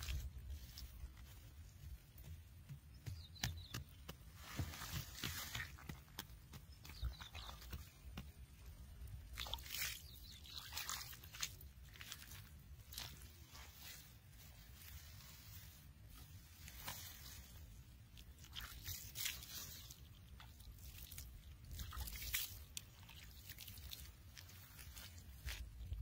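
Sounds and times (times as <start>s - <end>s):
hands scooping dry soil: 0.0s - 26.0s.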